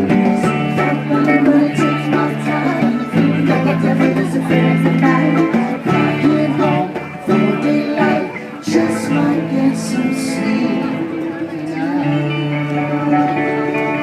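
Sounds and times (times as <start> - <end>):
acoustic band playing: 0.0 - 14.0.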